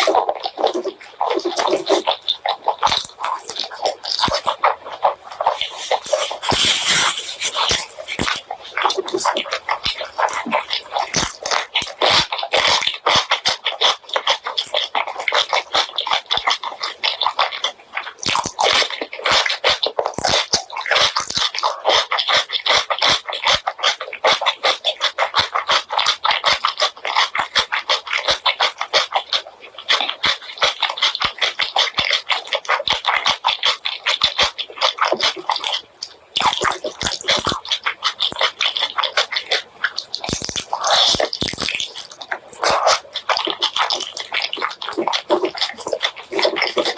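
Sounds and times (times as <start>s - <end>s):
lip smacking: 0.0s - 46.9s
wet chewing: 0.0s - 46.9s.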